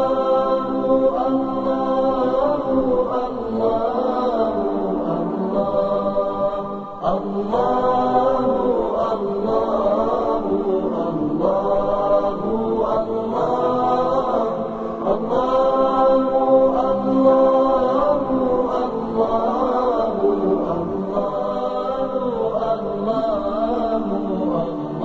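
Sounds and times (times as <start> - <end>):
layered voices chanting held notes: 0.0 - 25.0.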